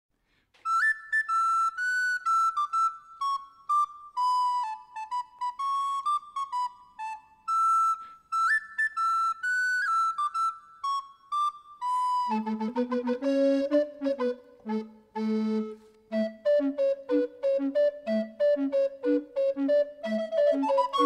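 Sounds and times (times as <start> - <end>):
solo flute-like melody: 0.6 - 21.0.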